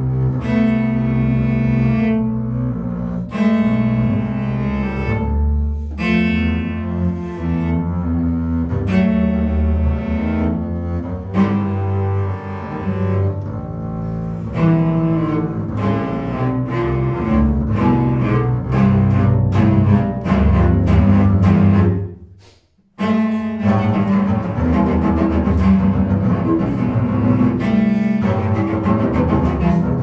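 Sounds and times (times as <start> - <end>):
cello and double bass bowing: 0.0 - 30.0.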